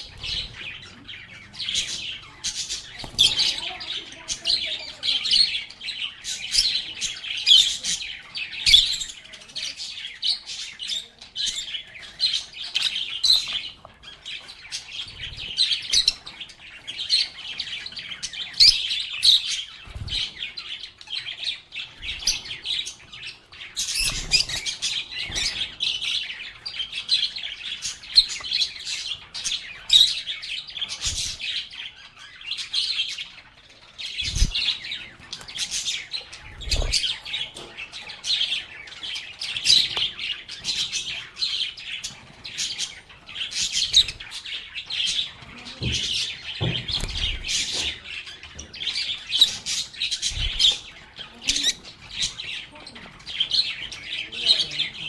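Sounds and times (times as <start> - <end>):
lovebirds chirping and chattering: 0.0 - 55.0.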